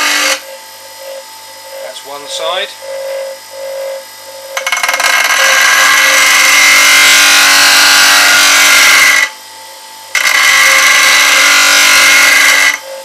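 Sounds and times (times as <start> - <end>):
bench grinder humming: 0.0 - 9.5, 10.1 - 13.0
grinding hiss: 0.0 - 13.0.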